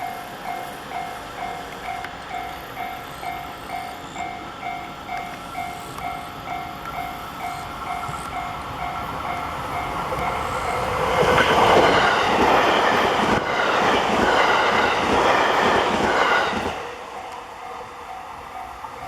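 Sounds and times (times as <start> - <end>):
train wheels rumbling and clattering: 0.0 - 19.0.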